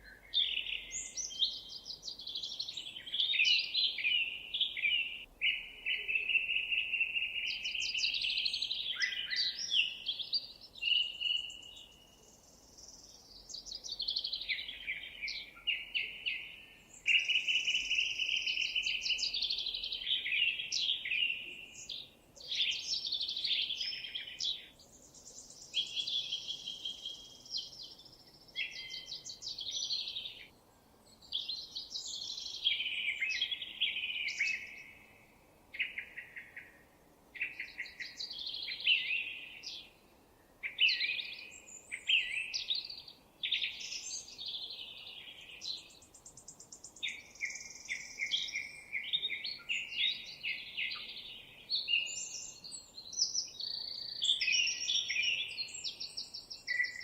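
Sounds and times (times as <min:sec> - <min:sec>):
songbird chirping and warbling: 0:00.0 - 0:57.0.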